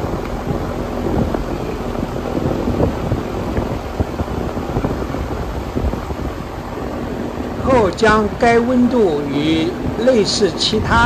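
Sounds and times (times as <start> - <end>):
air conditioner fan rushing: 0.0 - 11.0
low hum: 0.0 - 11.0.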